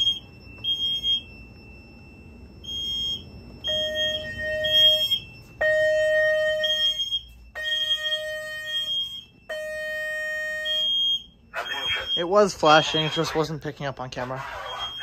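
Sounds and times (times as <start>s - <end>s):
alarm alert tone blasts: 0.0s - 15.0s.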